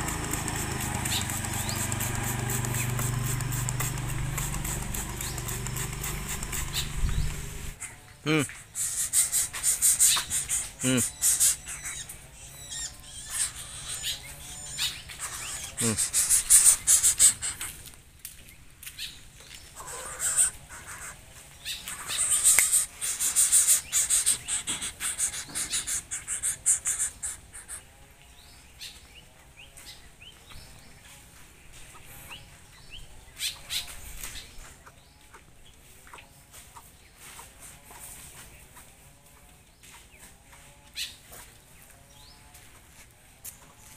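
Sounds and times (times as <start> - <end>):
faint small birds chirping: 0.0 - 43.9.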